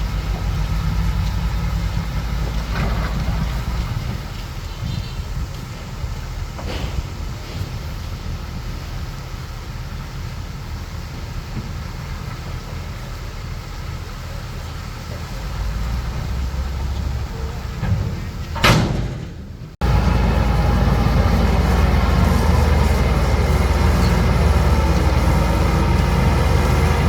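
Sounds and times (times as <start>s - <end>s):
bulldozer diesel engine rumbling: 0.0s - 27.0s.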